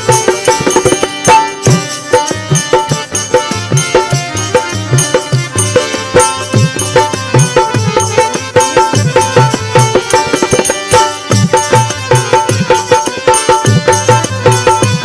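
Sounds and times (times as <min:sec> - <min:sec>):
hand drum rhythm: 0:00.0 - 0:15.0
harmonium melody: 0:00.0 - 0:15.0.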